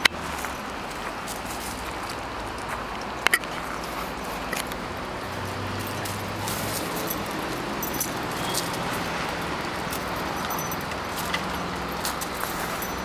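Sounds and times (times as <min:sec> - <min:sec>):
dogs scuffling on gravel: 0:00.2 - 0:13.0
light clicks and jingles: 0:00.3 - 0:13.0.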